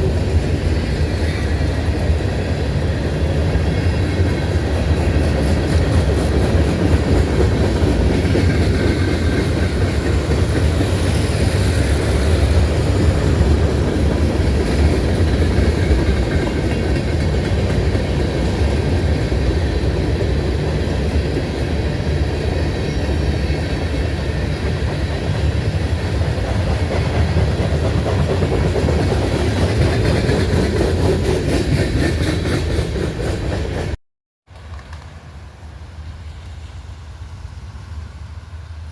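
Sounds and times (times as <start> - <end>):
train wheels clattering over rail joints: 0.0 - 35.2.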